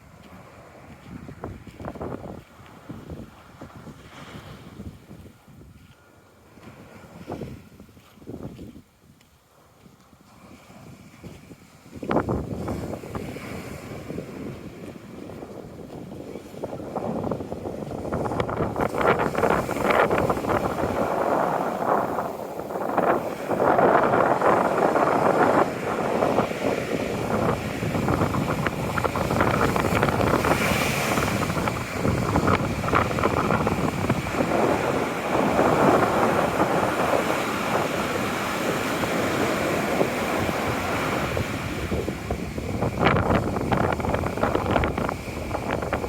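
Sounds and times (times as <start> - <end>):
waves rushing on shore: 0.0 - 5.2, 10.3 - 46.0
wind buffeting microphone: 0.0 - 46.0.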